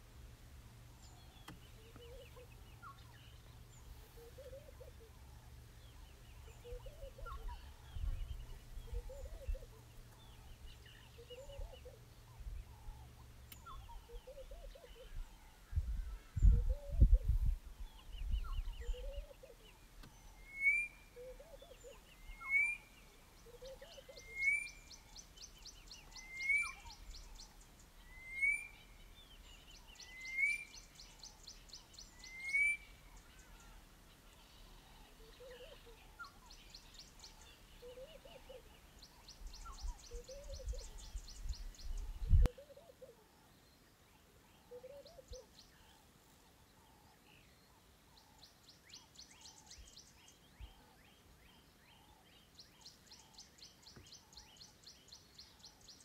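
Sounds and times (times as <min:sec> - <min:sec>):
lower bird calls: 0:00.8 - 0:56.0.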